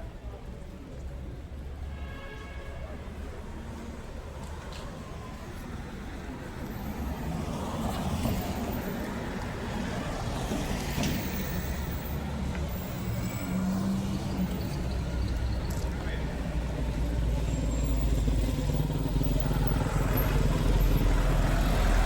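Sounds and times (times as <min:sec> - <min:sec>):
motor vehicle rumbling: 0:03.5 - 0:22.0.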